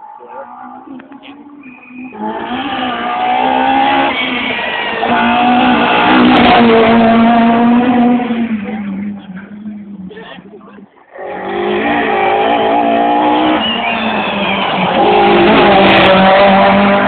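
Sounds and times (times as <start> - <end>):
rally car engine at high revs: 2.0 - 10.7, 11.3 - 17.0.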